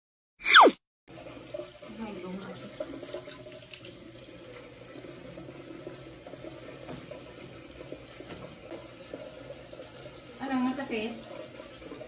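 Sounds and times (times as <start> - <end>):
tap water running into sink: 1.1 - 12.0.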